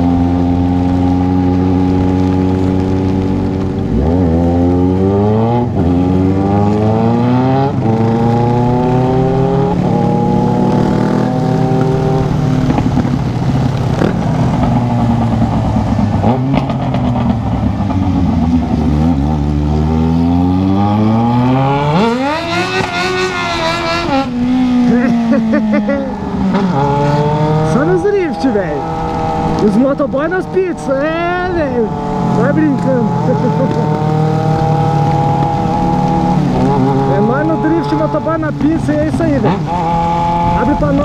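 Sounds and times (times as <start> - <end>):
motorcycle engine revving through gears: 0.0 - 41.0.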